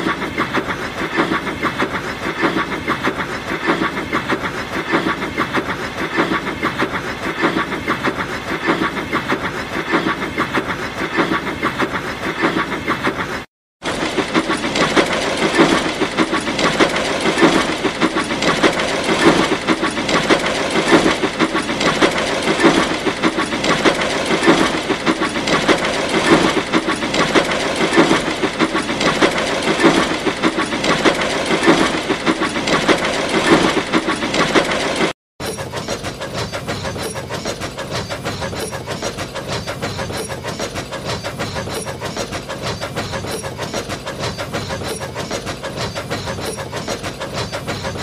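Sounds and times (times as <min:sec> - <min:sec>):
rattling and hissing: 0:00.0 - 0:48.0
steam locomotive chuffing: 0:00.0 - 0:48.0.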